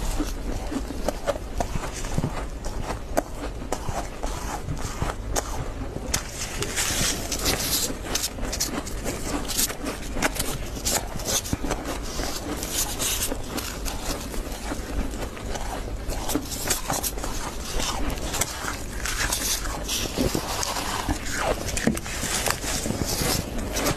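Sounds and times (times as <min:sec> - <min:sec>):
frost crunching as chewed: 0:00.0 - 0:23.9
plastic scoop scraping frost: 0:03.7 - 0:23.9.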